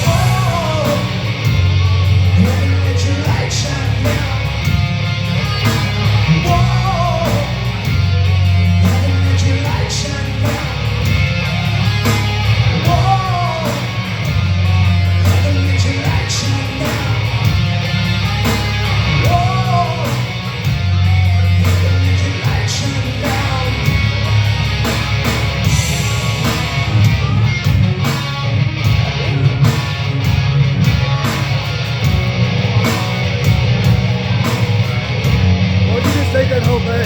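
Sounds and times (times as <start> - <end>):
drums: 0.0 - 37.0
electric guitar: 0.0 - 37.0
heavy bass line: 0.0 - 37.0.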